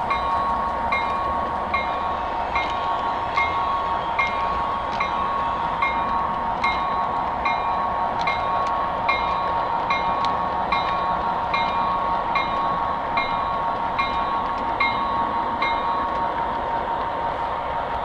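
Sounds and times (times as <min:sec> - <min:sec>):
wheels clicking over rail joints: 0:00.0 - 0:17.2
model train whine: 0:00.0 - 0:18.0.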